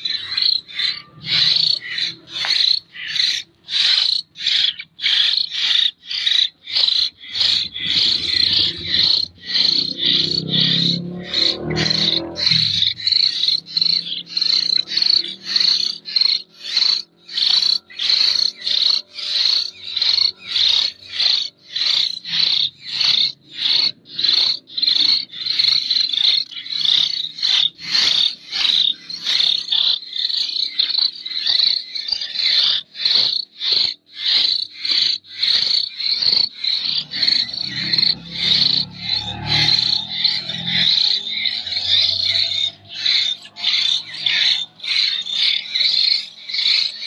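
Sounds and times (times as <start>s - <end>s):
nestlings begging calls: 0.0s - 47.0s.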